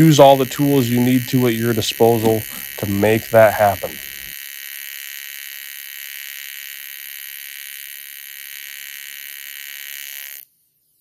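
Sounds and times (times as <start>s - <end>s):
welding arc buzzing and hissing: 0.0s - 10.4s.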